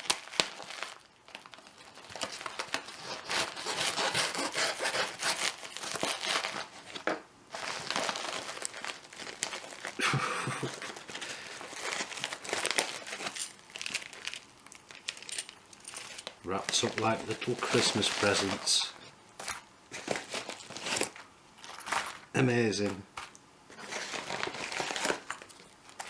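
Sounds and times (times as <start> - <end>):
packaging tearing and crinkling: 0.0 - 26.0.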